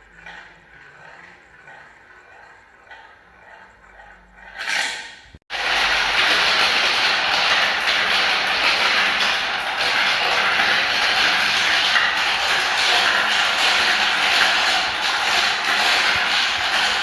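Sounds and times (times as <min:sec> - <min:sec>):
balls rattling down marble run: 0:00.0 - 0:17.0.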